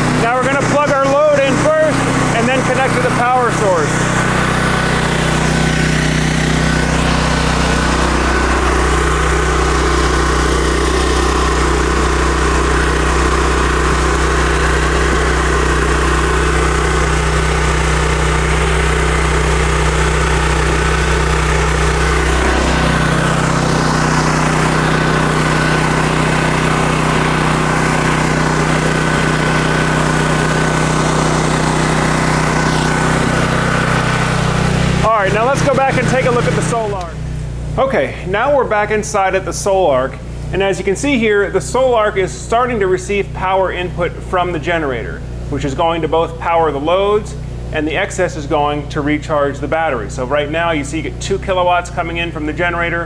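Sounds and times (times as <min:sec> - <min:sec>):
generator running: 0:00.0 - 0:53.0.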